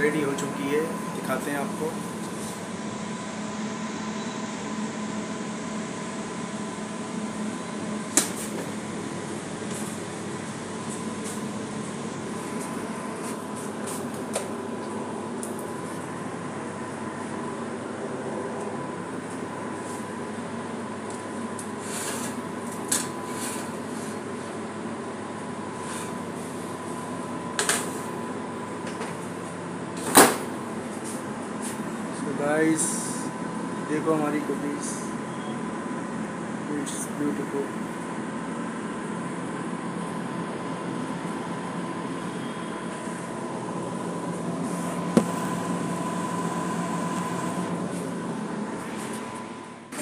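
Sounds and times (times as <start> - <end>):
kitchen fan humming: 0.0 - 50.0.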